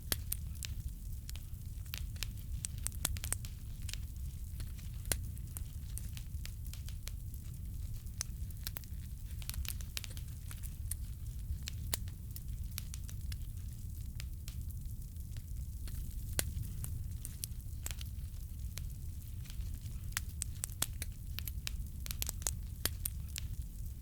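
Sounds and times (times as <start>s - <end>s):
fire crackling and popping: 0.0s - 24.0s
low roar of fire: 0.0s - 24.0s.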